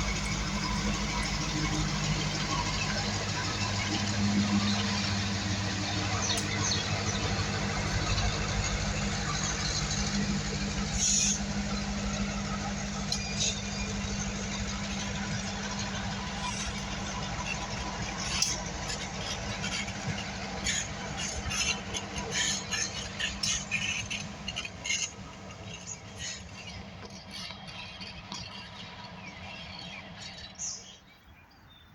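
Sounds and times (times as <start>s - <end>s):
low engine drone: 0.0s - 31.0s
train wheels rumbling: 0.0s - 31.3s
wheels squealing and clicking on rails: 0.0s - 31.9s.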